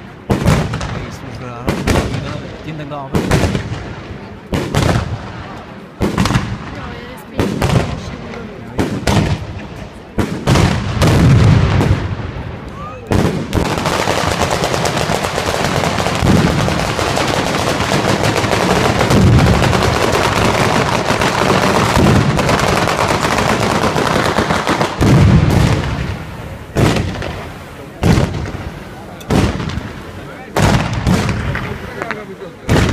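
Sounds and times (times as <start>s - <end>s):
fireworks bangs: 0.0s - 32.9s
heavy firework booms: 0.0s - 32.9s.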